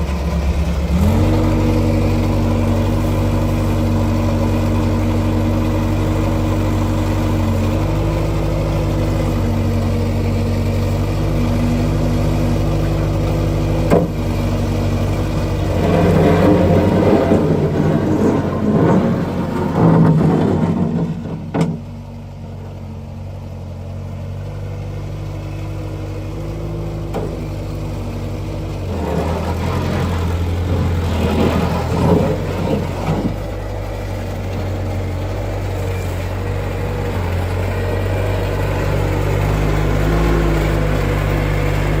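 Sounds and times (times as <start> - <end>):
excavator engine running: 0.0 - 42.0.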